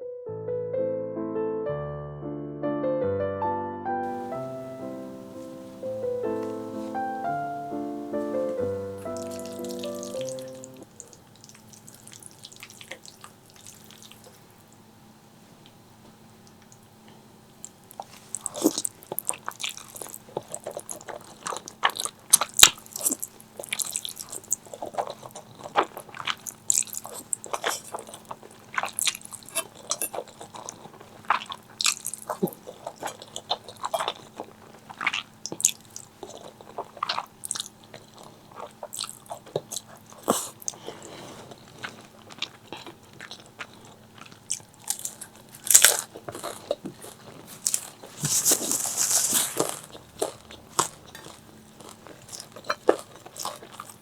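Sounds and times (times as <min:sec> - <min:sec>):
chewing crispy fried chicken: 0:04.0 - 0:14.8, 0:15.7 - 0:54.0.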